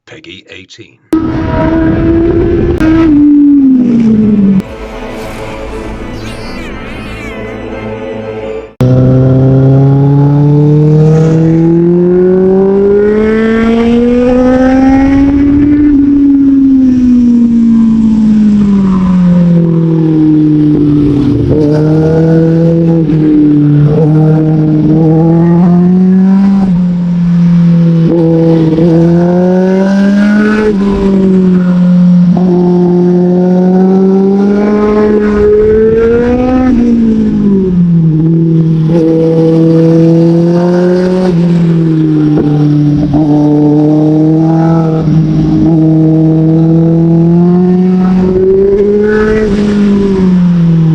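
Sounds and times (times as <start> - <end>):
motorcycle engine while riding: 1.2 - 4.7, 8.8 - 50.9.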